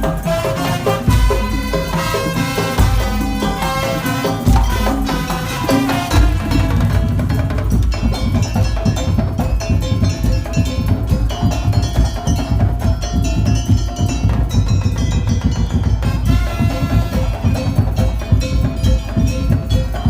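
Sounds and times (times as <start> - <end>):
deep drum beats: 0.0 - 20.0
quick knocking beats: 1.1 - 20.0
ringing metal tones melody: 1.1 - 20.0.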